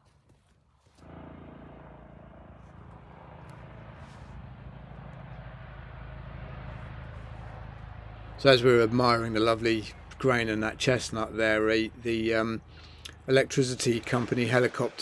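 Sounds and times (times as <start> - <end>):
helicopter rotor and engine: 1.0 - 15.0.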